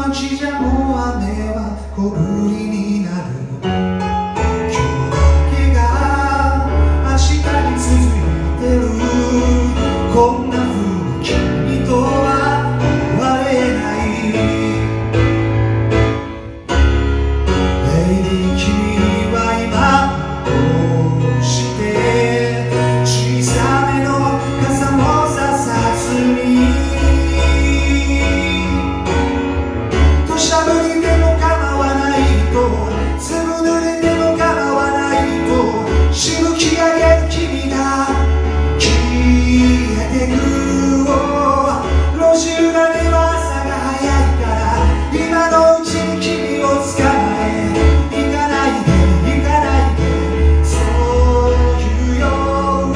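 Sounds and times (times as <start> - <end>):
man singing: 0.0 - 15.6, 17.5 - 52.9
stage piano playing: 0.0 - 52.9.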